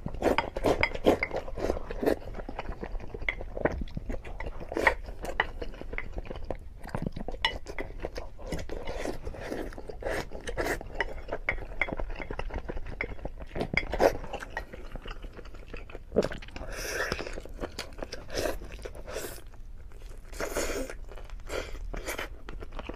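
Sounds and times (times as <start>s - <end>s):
wet chewing and biting: 0.0s - 22.9s.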